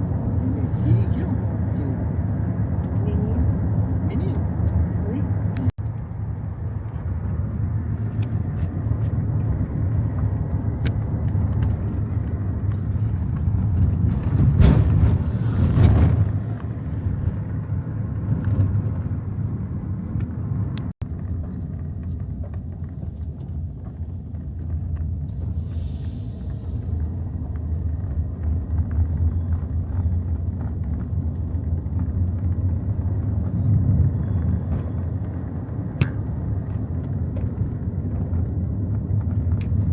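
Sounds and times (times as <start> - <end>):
vehicle rumbling in motion: 0.0 - 39.9.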